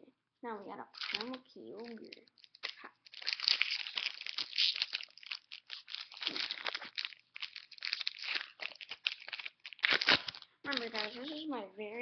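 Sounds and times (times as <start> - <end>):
foil wrapper tearing and crinkling: 1.0 - 11.5.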